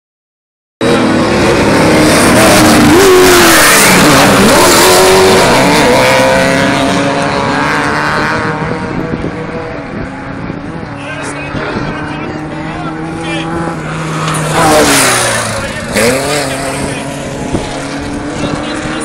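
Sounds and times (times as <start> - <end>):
race buggy engine revving: 0.8 - 19.0.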